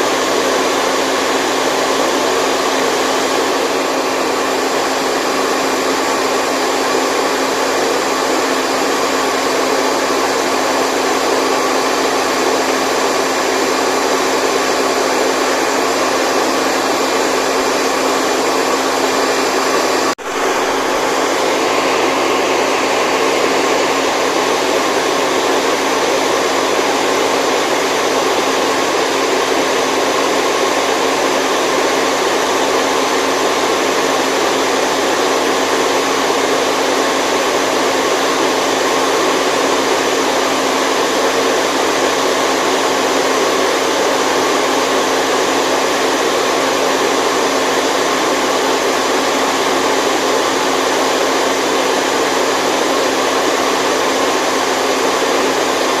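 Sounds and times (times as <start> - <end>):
blower motor whooshing hum: 0.0 - 56.0.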